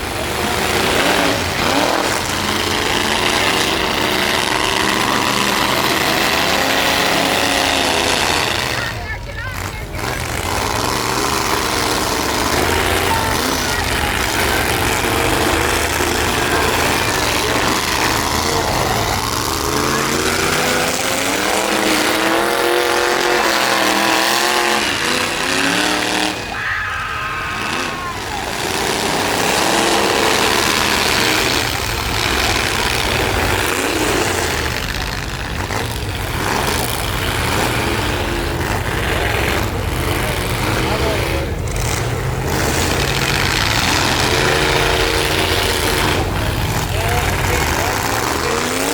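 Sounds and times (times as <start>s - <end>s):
constant noisy din: 0.0s - 48.9s
truck engines revving: 0.0s - 48.9s.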